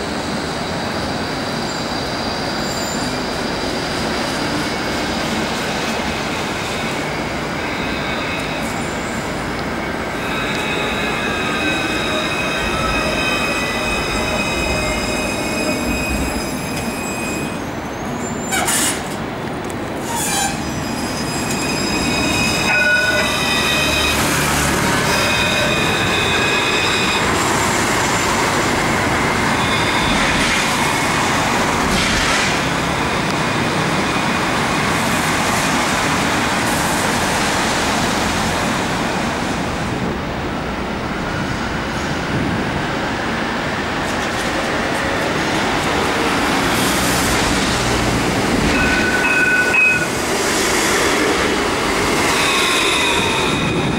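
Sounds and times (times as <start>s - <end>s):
tram electric whine: 0.0s - 53.9s
wheels squealing on rails: 0.1s - 19.2s, 20.0s - 38.7s, 44.1s - 53.9s.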